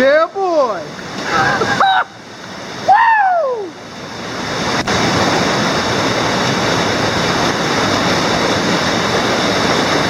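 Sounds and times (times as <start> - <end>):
waterfall rushing water: 0.0 - 10.0.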